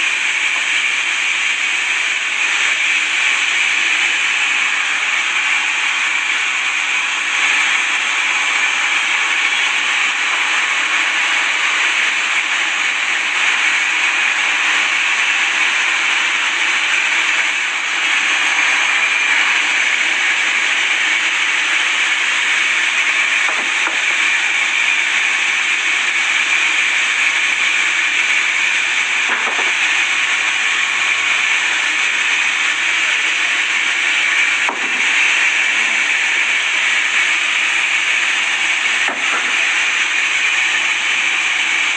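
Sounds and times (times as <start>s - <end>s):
saw cutting through wood: 0.0s - 41.9s.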